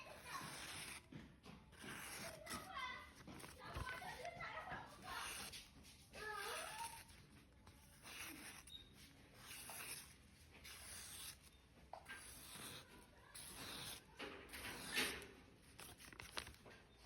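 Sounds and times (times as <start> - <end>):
knife scraping on a sharpener: 0.0 - 1.1, 1.7 - 4.3, 5.0 - 7.2, 7.8 - 15.9.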